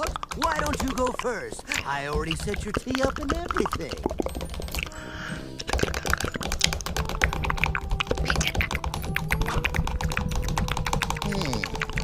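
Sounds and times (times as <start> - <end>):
rapid clicks and taps: 0.0 - 5.0, 5.6 - 12.0.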